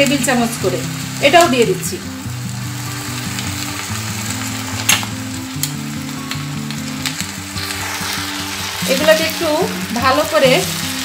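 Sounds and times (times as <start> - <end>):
paste sizzling in hot oil: 0.0 - 11.0
soft background music: 0.0 - 11.0.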